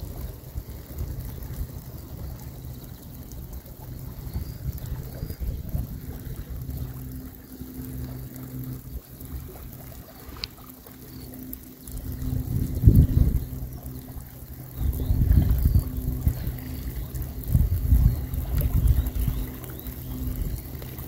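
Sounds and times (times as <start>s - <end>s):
wind buffeting microphone: 0.0s - 10.5s, 11.3s - 21.0s
faint low drone: 0.0s - 21.0s.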